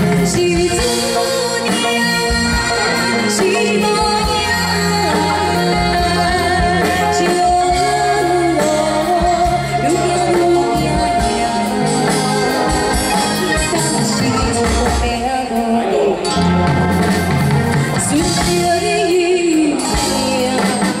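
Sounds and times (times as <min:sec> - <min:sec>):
live band playing pop song: 0:00.0 - 0:21.0
person singing: 0:00.0 - 0:21.0.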